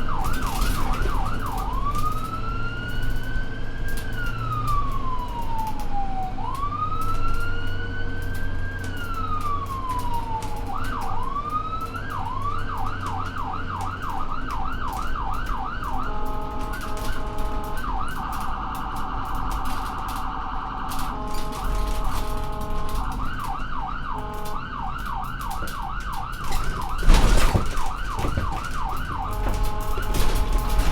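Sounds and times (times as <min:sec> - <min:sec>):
ambulance siren: 0:00.0 - 0:30.9
low vehicle hum: 0:00.0 - 0:30.9.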